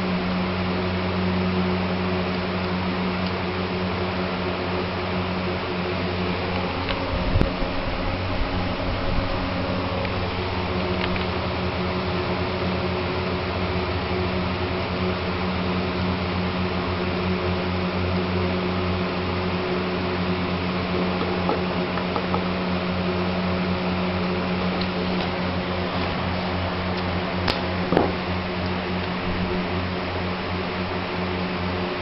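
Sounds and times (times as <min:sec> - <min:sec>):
small motor humming: 0:00.0 - 0:32.0.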